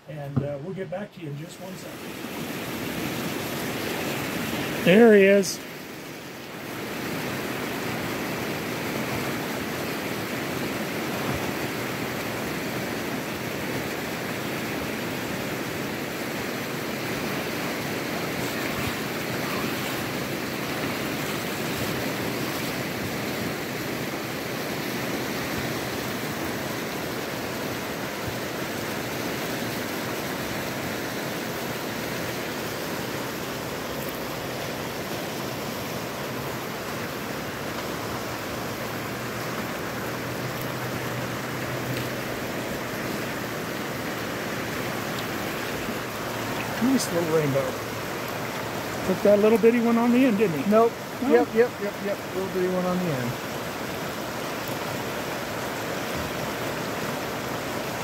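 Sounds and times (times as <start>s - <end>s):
river rapids rushing: 1.2s - 58.0s.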